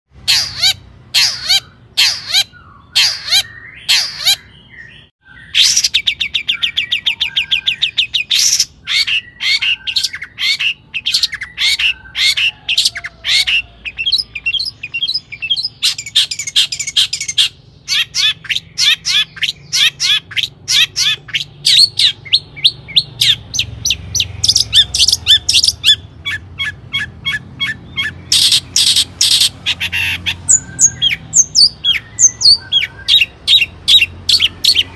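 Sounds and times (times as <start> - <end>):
bird chattering and trilling: 0.1 - 34.9.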